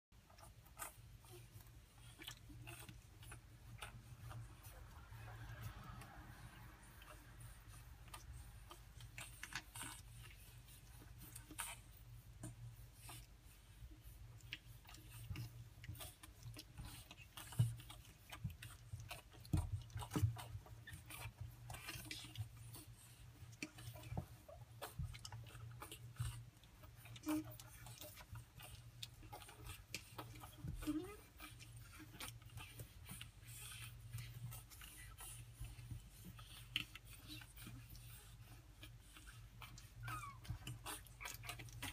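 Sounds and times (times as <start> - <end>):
puppies scuffling and play-wrestling: 0.2 - 41.9.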